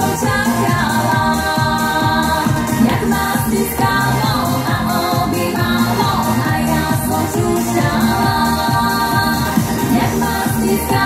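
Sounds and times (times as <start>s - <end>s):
woman singing into microphone: 0.0s - 11.0s.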